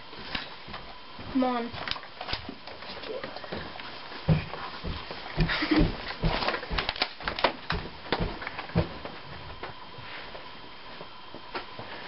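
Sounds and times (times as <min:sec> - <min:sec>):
footsteps: 0:00.0 - 0:12.0.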